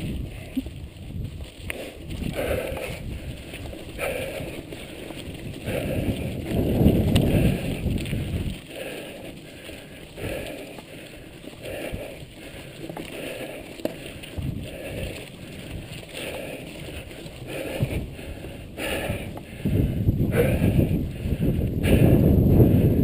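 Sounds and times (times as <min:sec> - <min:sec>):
bike tyres crunching over gravel: 0:00.0 - 0:23.0.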